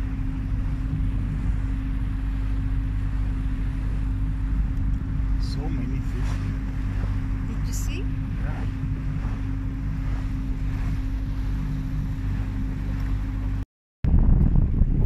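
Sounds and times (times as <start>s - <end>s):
motorboat engine hum: 0.0s - 15.0s
water noise: 0.0s - 15.0s
wind noise: 0.0s - 15.0s.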